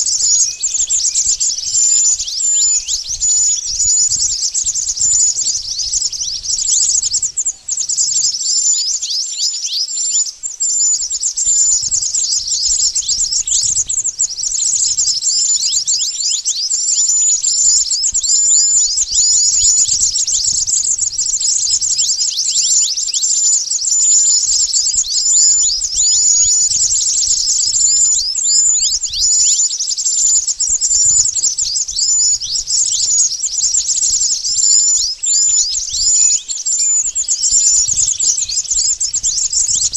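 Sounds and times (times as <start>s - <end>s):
bird lure call twittering: 0.0s - 39.9s.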